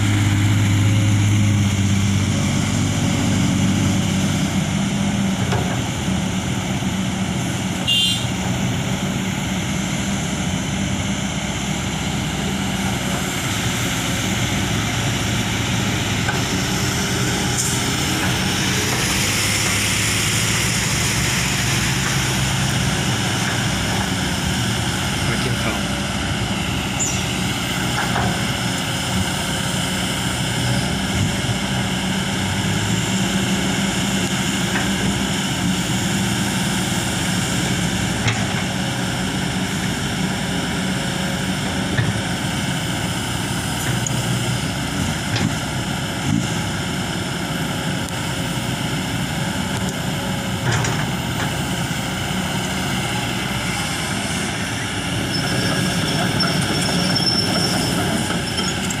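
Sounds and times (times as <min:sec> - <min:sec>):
dump truck engine running: 0:00.0 - 0:59.0
excavator engine and hydraulics: 0:00.0 - 0:59.0.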